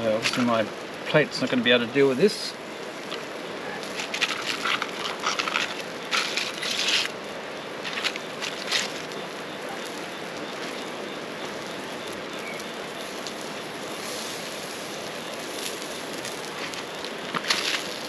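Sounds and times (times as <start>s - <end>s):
faint campfire crackles: 0.0s - 18.0s
rain: 0.0s - 18.0s.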